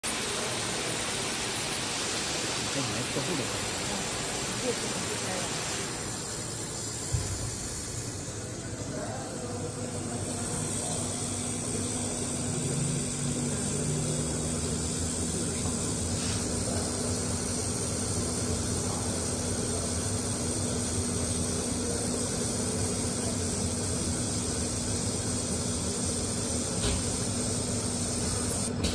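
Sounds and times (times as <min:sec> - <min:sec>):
hissing factory machinery: 0:00.0 - 0:28.9.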